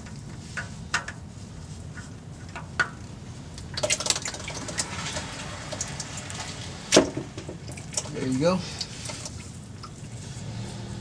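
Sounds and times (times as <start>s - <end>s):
oil dripping into a drain pan: 0.0s - 11.0s.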